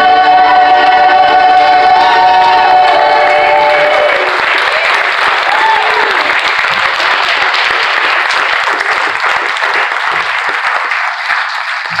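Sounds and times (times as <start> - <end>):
crowd clapping: 2.0 - 12.0.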